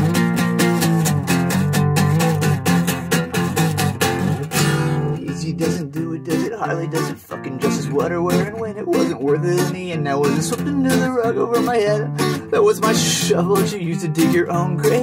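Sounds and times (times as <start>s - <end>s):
acoustic guitar strummed fast: 0.0s - 15.0s.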